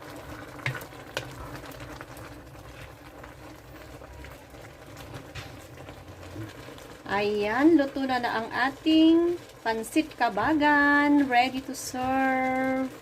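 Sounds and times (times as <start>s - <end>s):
noodles cooking in a pan: 0.0s - 13.0s.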